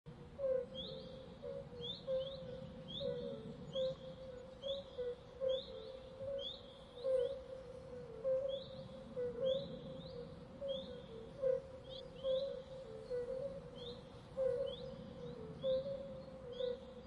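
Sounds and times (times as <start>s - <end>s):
faint low background noise: 0.1s - 17.0s
steady lower call: 0.1s - 17.0s.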